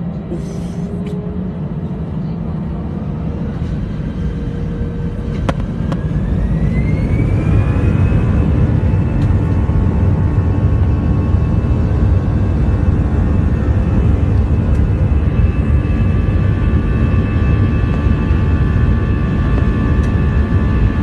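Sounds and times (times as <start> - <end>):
aircraft engines rumbling: 0.0 - 21.0
engine whine rising in pitch: 0.0 - 21.0.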